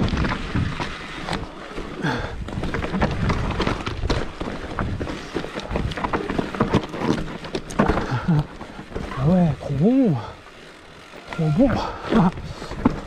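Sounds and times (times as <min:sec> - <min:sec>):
bike knocking and rattling on trail: 0:00.0 - 0:13.0.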